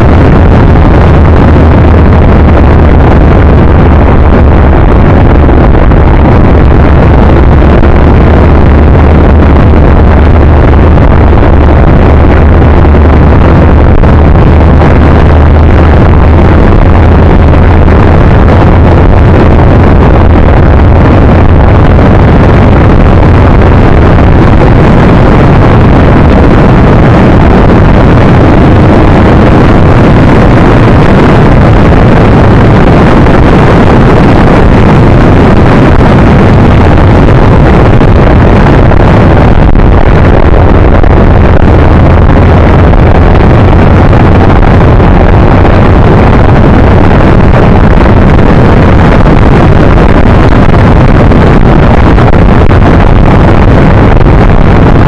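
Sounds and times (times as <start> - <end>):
low drone: 0.0 - 52.8
wind roar: 0.0 - 55.0.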